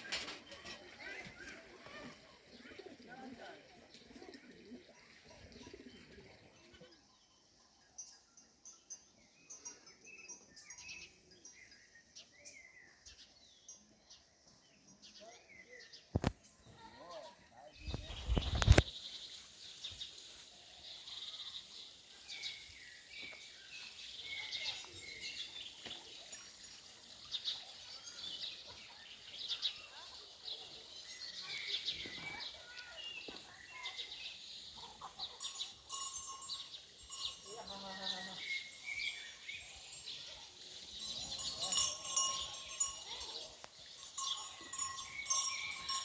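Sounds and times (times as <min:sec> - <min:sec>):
songbirds chirping and whistling: 0:00.0 - 0:16.7, 0:17.7 - 0:46.0.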